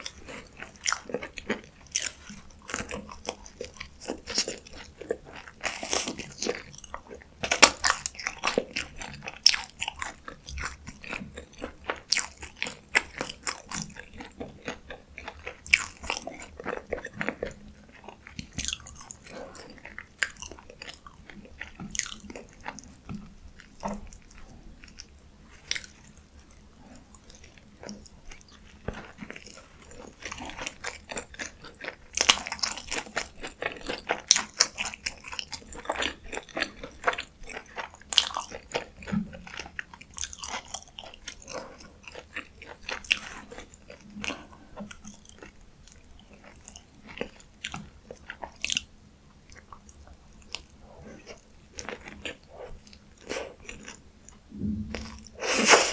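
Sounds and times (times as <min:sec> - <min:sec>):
crunching chews of fried food: 0:00.0 - 0:55.9.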